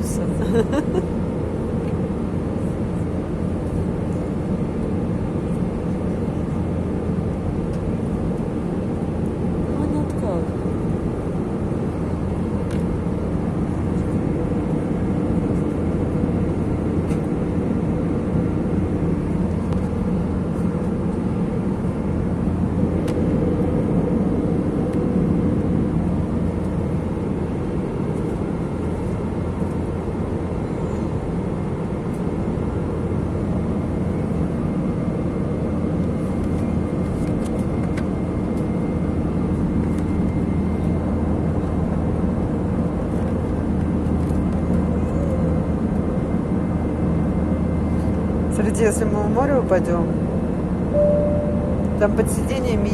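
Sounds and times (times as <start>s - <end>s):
jet airliner cabin drone: 0.0s - 52.9s.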